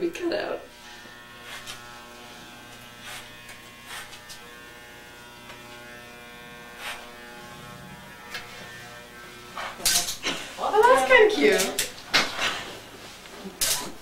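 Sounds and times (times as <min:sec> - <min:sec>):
electric hair clippers buzzing: 0:00.2 - 0:14.0.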